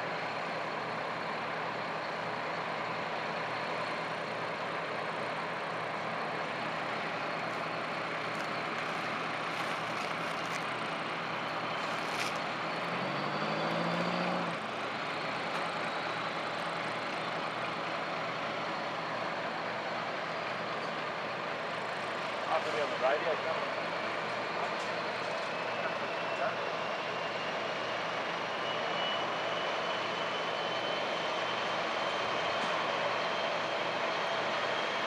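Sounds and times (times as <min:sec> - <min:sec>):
tow tractor engine running: 0:00.0 - 0:35.0.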